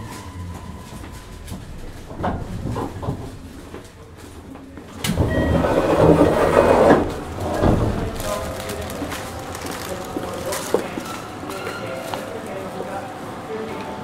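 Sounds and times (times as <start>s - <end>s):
train wheels rolling on rails: 0.0s - 12.6s.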